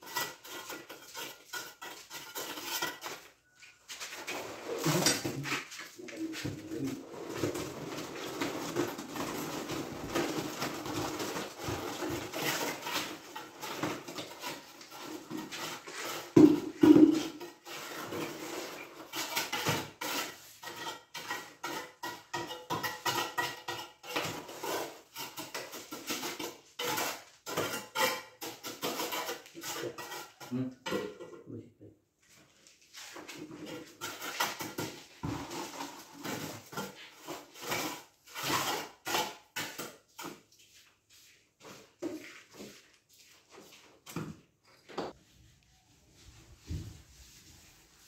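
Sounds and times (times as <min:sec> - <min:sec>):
masonry knocks and clatter: 0:00.0 - 0:31.5, 0:33.2 - 0:40.6.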